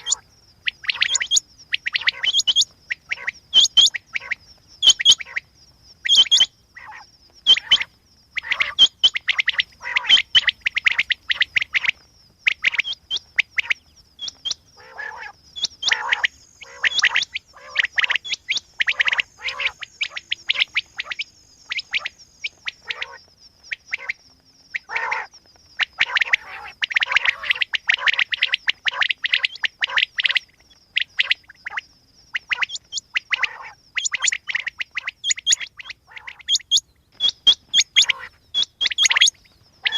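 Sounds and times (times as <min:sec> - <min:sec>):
quail chirping: 0:00.0 - 0:39.9.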